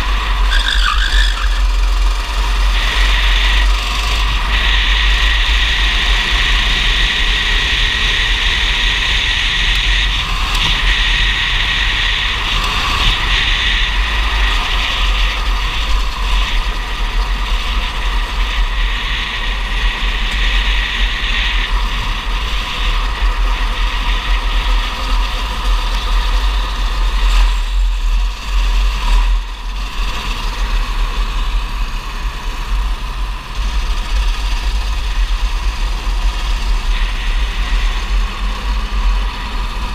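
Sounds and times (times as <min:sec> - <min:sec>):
heavy low rumble: 0:00.0 - 0:39.9
kart engine at high revs: 0:00.0 - 0:39.9.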